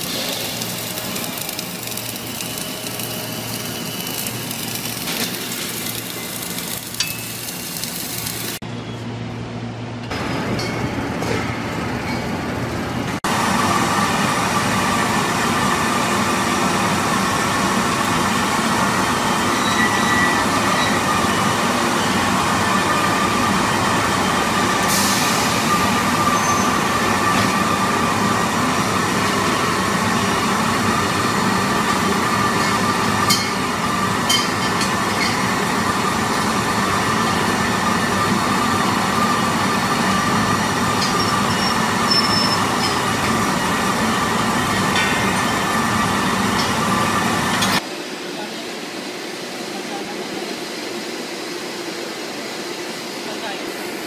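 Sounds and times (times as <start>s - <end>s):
welding machinery running: 0.0s - 8.6s, 12.6s - 54.0s
furnace whine: 0.0s - 54.0s.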